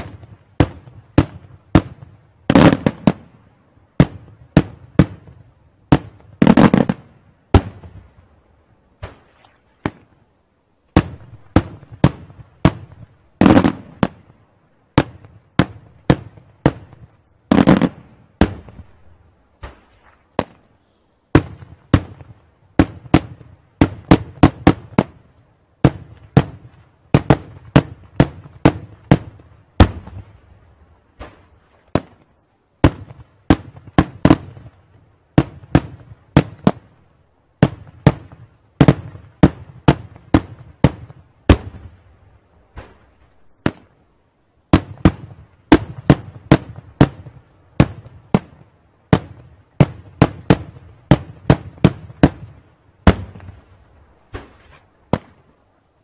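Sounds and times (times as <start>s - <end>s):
fireworks bursting: 0.0s - 44.1s, 44.7s - 55.8s.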